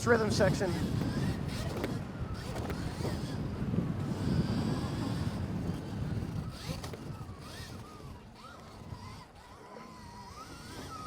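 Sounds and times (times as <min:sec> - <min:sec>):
electric motorbike motor whining: 0:00.0 - 0:11.0
wind rumble on microphone: 0:00.0 - 0:11.0.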